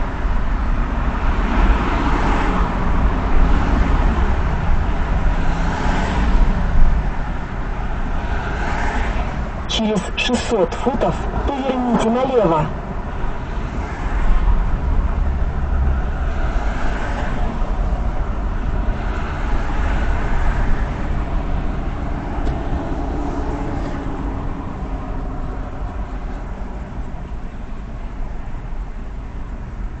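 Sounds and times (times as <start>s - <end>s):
car interior road and engine rumble: 0.0s - 30.0s.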